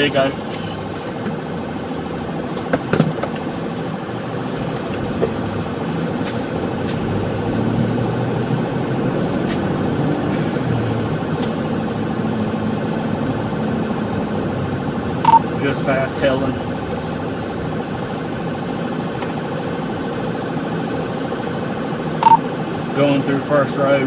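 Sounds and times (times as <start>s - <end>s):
car engine: 0.0s - 24.0s.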